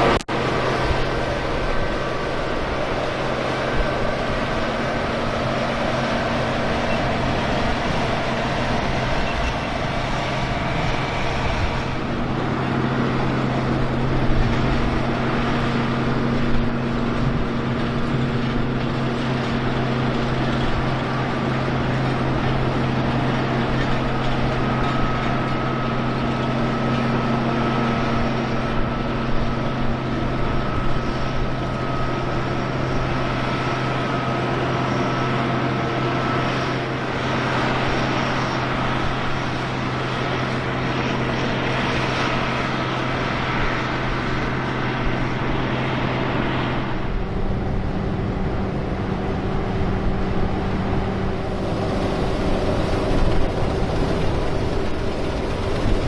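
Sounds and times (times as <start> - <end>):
faint high whine: 0.0 - 56.0
low engine drone: 0.0 - 56.0.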